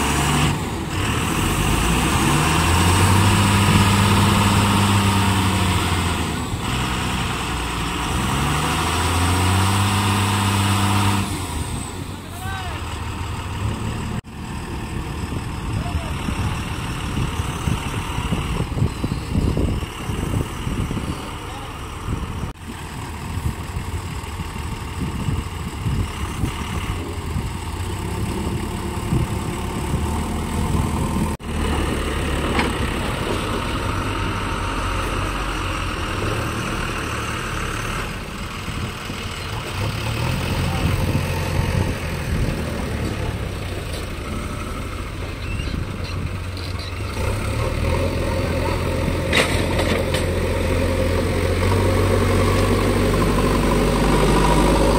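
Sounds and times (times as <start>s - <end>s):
heavy diesel engines droning: 0.0s - 54.9s.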